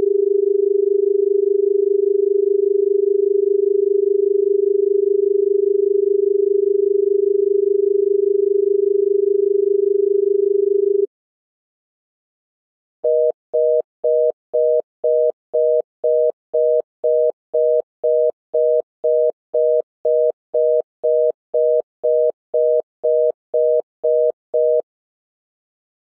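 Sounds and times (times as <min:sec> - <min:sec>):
telephone congestion tone beeps: 0:00.0 - 0:11.1, 0:13.0 - 0:24.9.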